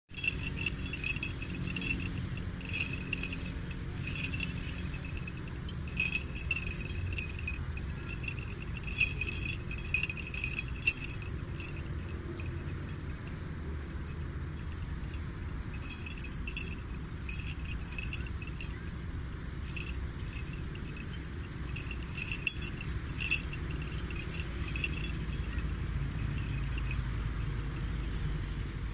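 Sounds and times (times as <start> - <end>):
sheep bell clinking: 0.1 - 28.9
low background noise: 0.2 - 28.9.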